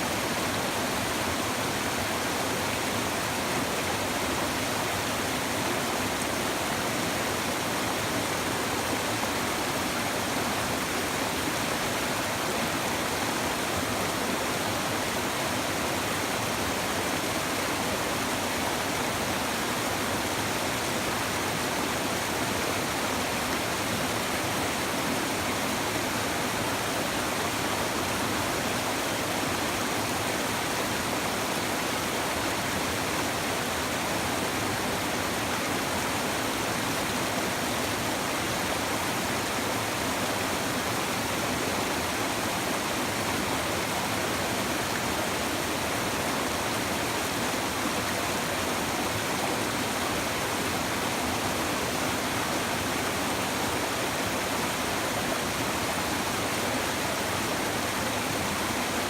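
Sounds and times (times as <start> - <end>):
river water babbling: 0.0 - 59.0.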